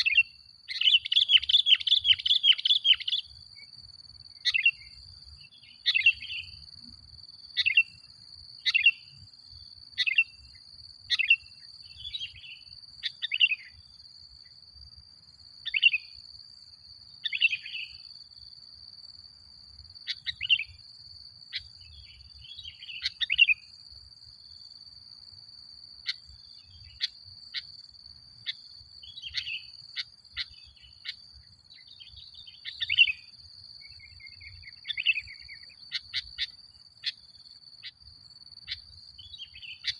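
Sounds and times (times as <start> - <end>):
bird chirping: 0.0 - 14.6, 15.3 - 18.8, 19.7 - 23.8, 25.9 - 39.9.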